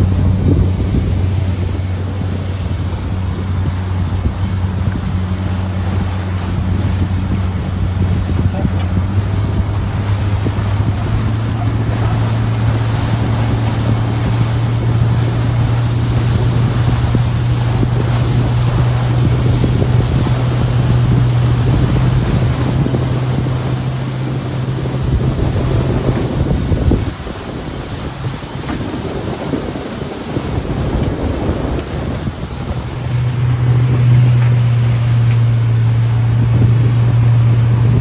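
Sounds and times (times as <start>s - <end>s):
boat engine running: 0.0s - 38.0s
water rushing: 0.0s - 38.0s
wind buffeting microphone: 0.0s - 38.0s.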